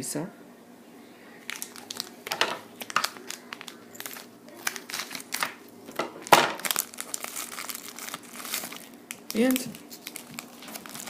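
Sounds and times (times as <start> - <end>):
plastic packet crinkling and tearing: 1.4 - 11.0.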